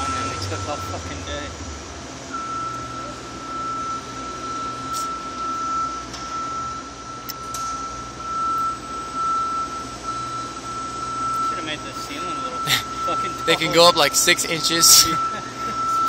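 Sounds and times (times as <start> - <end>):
high-pitched whine: 0.0 - 16.0
machinery hum and hiss: 0.0 - 16.0.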